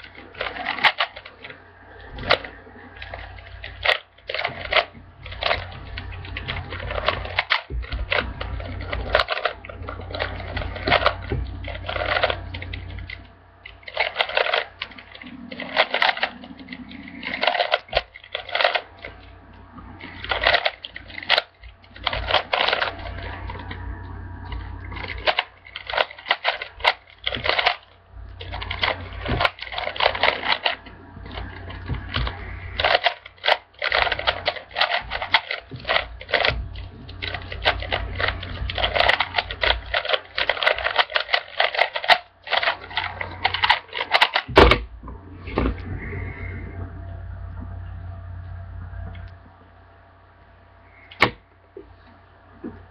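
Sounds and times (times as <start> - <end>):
puzzle cube clicking: 0.0 - 19.3, 20.0 - 44.8.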